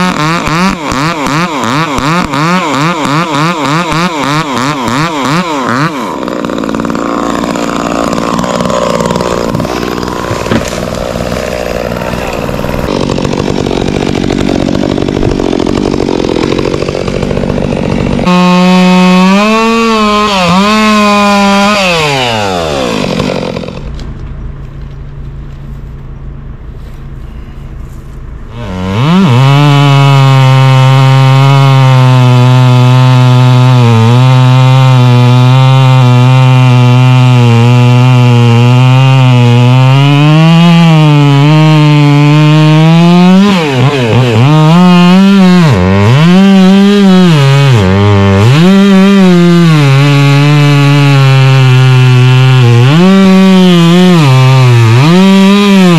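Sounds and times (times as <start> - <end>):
chainsaw cutting wood: 0.0 - 25.6, 28.1 - 55.9.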